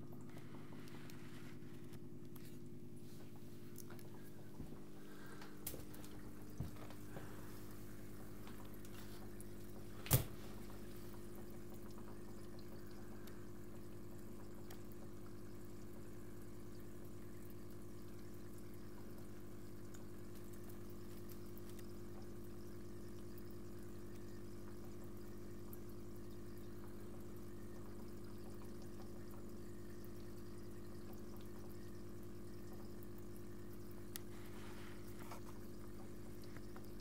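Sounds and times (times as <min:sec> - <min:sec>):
aquarium pump humming: 0:00.0 - 0:37.0
water trickling: 0:00.0 - 0:37.0.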